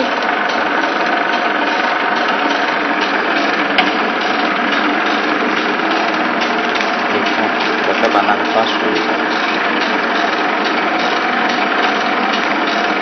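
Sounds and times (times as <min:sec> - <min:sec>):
sealing machine whirring: 0:00.0 - 0:13.0.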